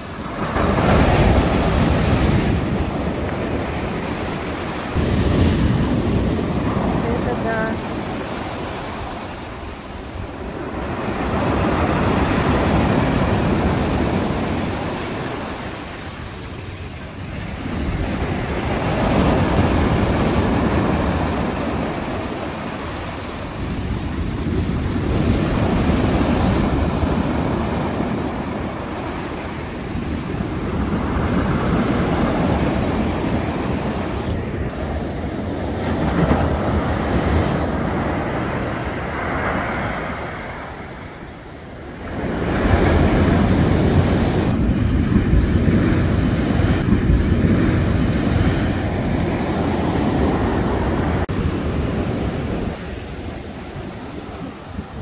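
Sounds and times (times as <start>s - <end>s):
rough surf breaking: 0.0s - 55.0s.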